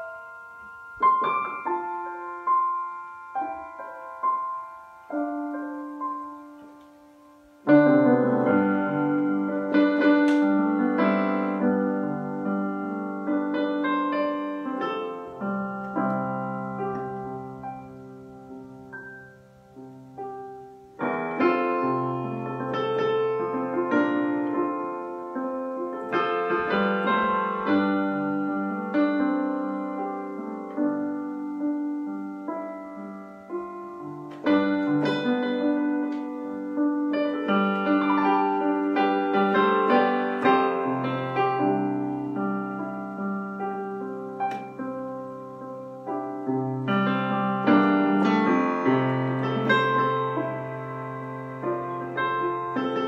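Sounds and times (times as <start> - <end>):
electronic keyboard piano chords: 0.0 - 53.0.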